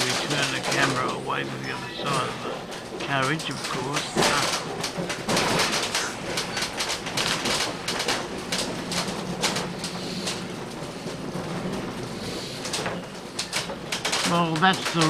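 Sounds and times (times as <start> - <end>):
clicks and knocks: 0.0 - 15.0
railway carriage rattling: 0.0 - 15.0.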